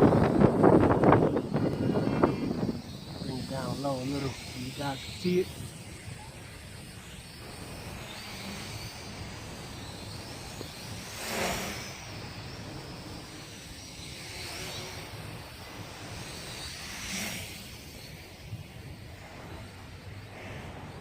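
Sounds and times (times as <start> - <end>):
drone motors whining: 0.0 - 21.0
wind buffeting microphone: 0.0 - 21.0.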